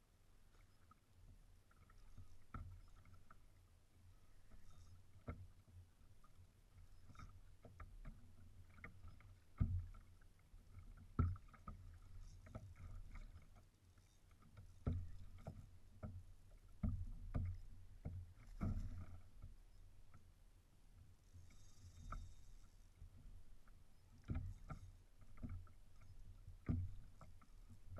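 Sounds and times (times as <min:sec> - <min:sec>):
water rumble: 0:00.0 - 0:27.9
wind: 0:00.0 - 0:27.9.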